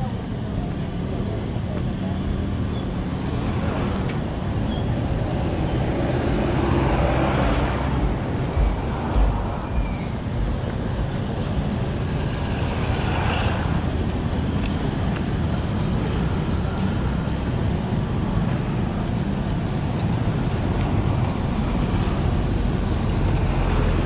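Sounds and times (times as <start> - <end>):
traffic on wet road: 0.0 - 24.0.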